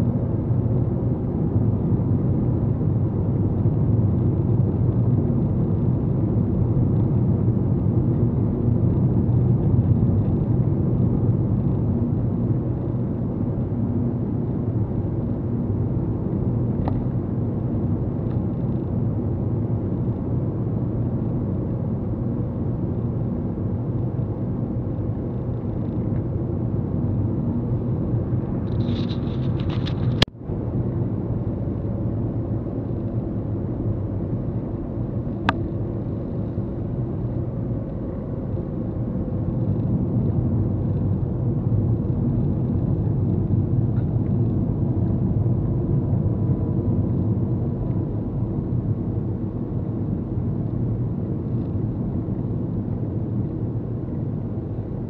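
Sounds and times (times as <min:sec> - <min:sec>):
car cabin road noise: 0:03.4 - 0:55.0.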